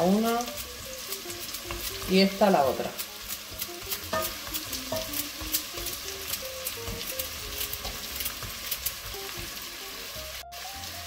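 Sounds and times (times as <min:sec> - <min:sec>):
soft background music: 0:00.0 - 0:11.0
vegetables sizzling in hot oil: 0:00.0 - 0:11.0.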